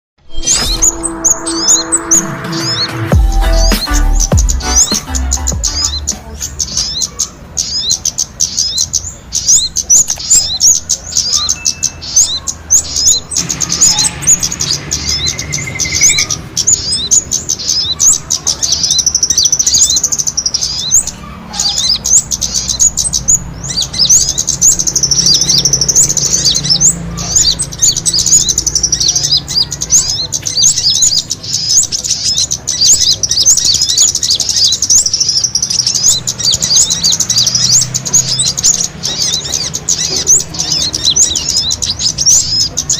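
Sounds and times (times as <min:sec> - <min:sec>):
small birds chirping agitatedly: 0:00.2 - 0:42.9.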